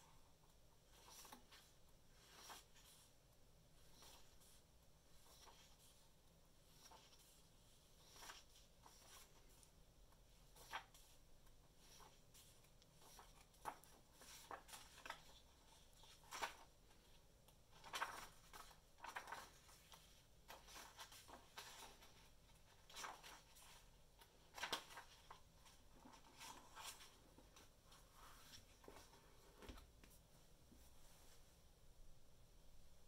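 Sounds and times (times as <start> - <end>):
book pages turning: 0.9 - 3.1, 5.1 - 6.0, 6.6 - 30.2.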